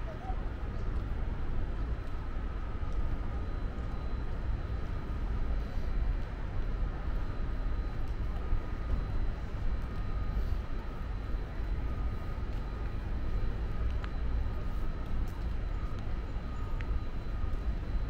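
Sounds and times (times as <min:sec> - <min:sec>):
city background rumble: 0:00.0 - 0:18.0.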